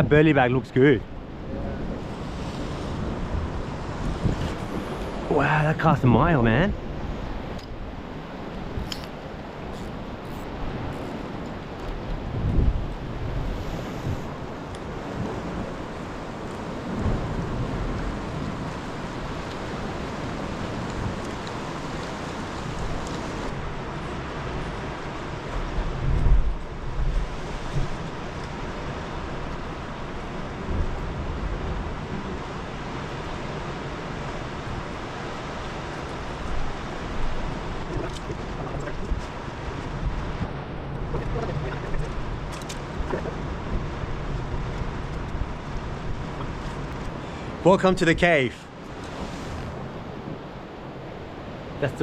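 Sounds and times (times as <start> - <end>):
ocean swell washing against rocks: 0.0 - 52.0
sea surf: 0.0 - 52.0
wind rumbling on microphone: 0.0 - 52.0.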